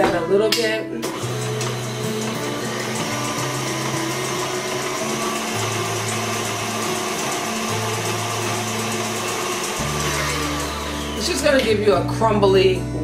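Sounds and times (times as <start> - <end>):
background music with low bass: 0.0 - 13.0
stand mixer motor running: 1.0 - 11.9.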